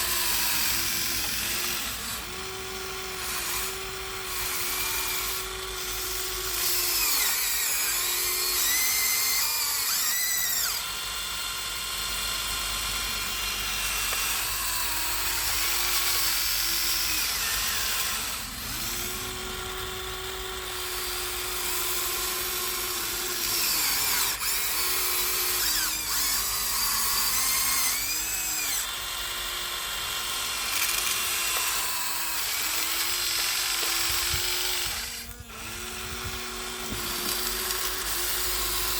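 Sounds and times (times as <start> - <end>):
toy excavator electric motors whining: 0.0 - 38.9.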